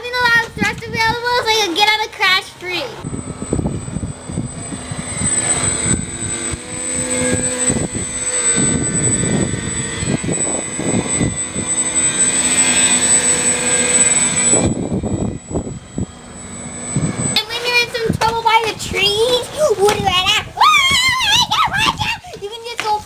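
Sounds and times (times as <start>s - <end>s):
low rumbling: 0.0s - 22.0s
model plane motors whining: 0.0s - 23.0s.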